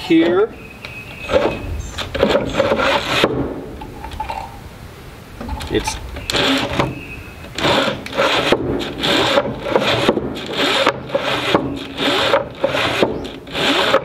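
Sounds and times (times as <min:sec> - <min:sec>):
wooden door scraping in track: 0:01.0 - 0:04.6, 0:05.4 - 0:14.0.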